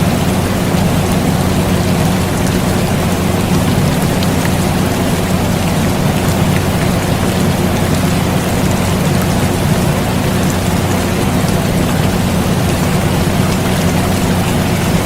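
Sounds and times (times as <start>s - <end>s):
air conditioner hum: 0.0s - 15.0s
steady rain hiss: 0.0s - 15.0s.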